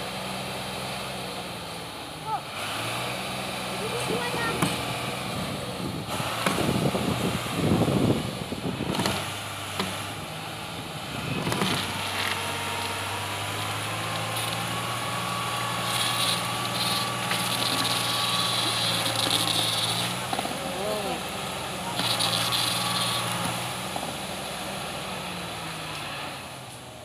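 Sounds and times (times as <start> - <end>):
bulldozer diesel engine running: 0.0 - 27.0
rough machine noises: 0.2 - 27.0.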